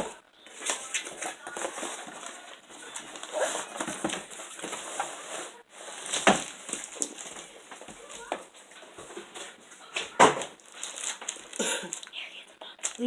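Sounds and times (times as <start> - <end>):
package rustling and crinkling: 0.5 - 13.0.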